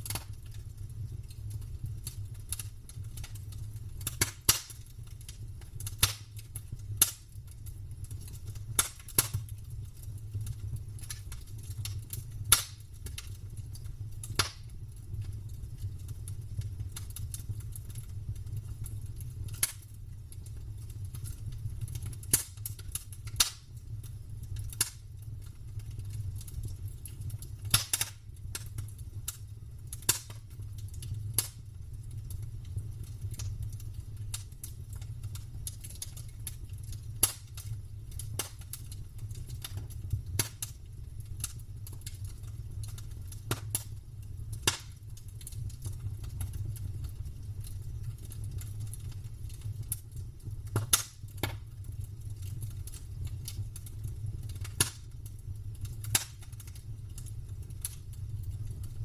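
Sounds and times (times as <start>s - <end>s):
burning wood snapping and popping: 0.0s - 59.0s.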